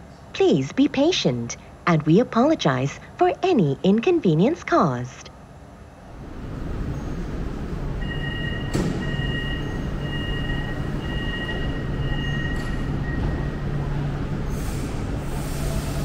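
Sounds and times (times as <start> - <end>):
train hum and rumble: 0.0 - 16.0.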